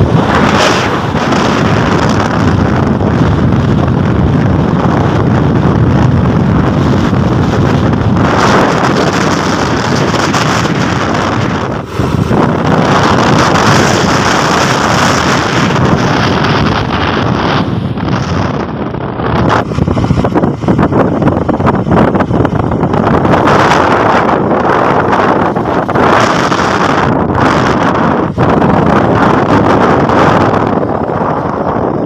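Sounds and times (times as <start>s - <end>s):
road noise rush: 0.0s - 32.0s
wind buffeting microphone: 0.0s - 32.0s.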